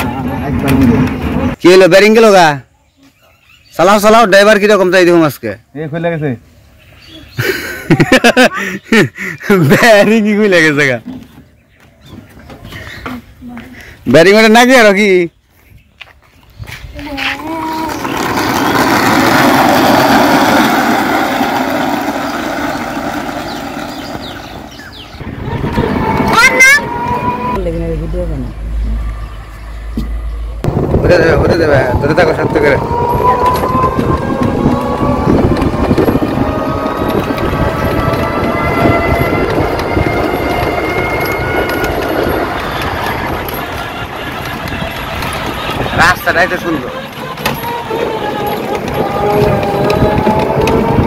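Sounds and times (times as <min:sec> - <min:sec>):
vehicle engine and road noise: 0:00.0 - 0:01.7, 0:09.8 - 0:51.0.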